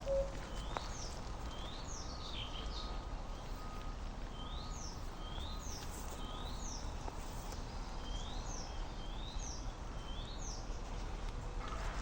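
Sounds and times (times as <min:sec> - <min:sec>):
songbird chirping: 0:00.0 - 0:10.7
low outdoor background rumble: 0:00.0 - 0:12.0.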